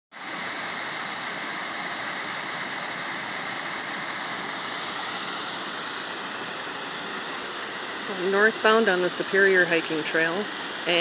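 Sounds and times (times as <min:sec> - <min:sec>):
creek water rushing over rocks: 0:00.2 - 0:11.0.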